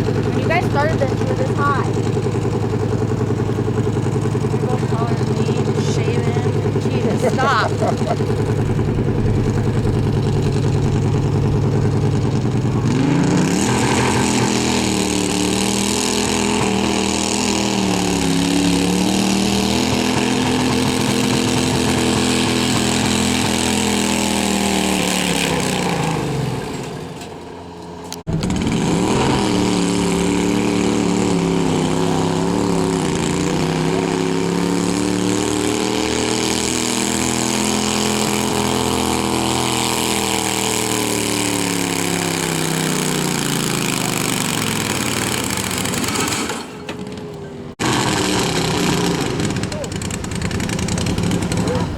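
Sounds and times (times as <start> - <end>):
tractor engine revving: 0.0 - 51.9.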